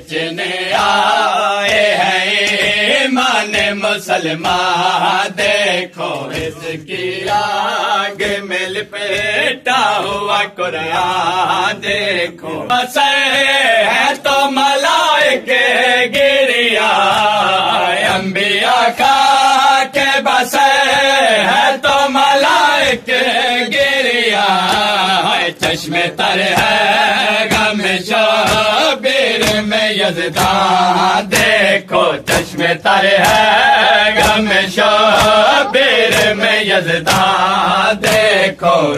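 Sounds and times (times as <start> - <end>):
chest-beating slaps: 0.0 - 14.4, 16.1 - 38.9
men chanting in unison: 0.0 - 38.9.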